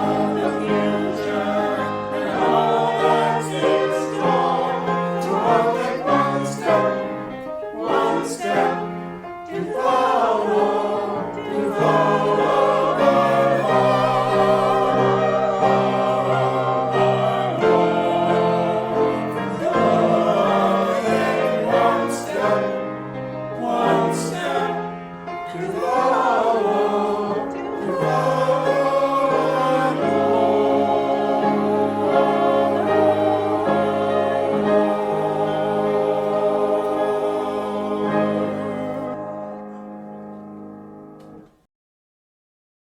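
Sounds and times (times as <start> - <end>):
choir singing: 0.0 - 40.6.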